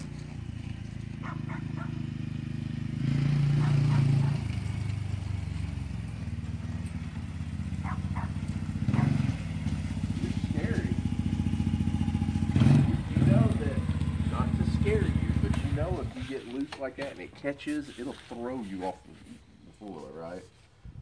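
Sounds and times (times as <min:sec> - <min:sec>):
small atv engine running: 0:00.0 - 0:16.8.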